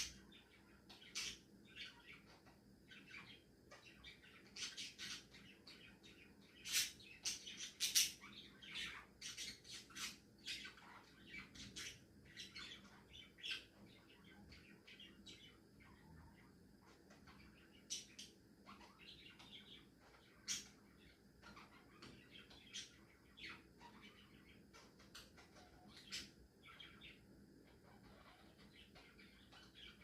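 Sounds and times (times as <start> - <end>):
budgerigars chirping and squawking: 0.0 - 30.0.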